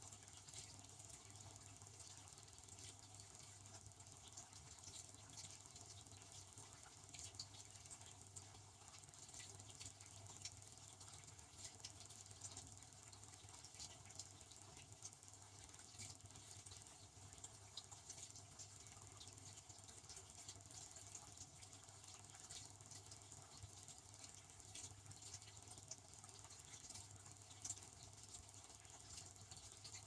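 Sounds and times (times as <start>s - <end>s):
small irregular ticks: 0.0s - 30.0s.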